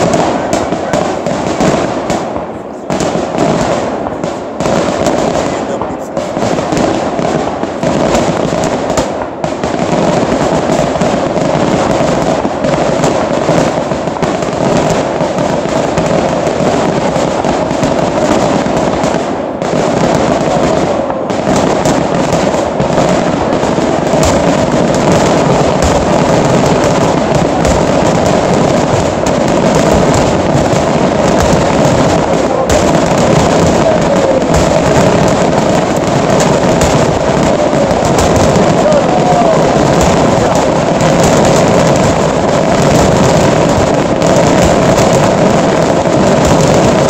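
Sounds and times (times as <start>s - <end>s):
fireworks bursting and crackling: 0.0s - 47.0s.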